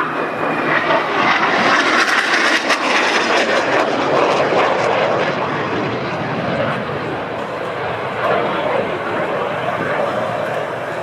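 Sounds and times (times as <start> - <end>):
fighter jets flying past: 0.0 - 11.0.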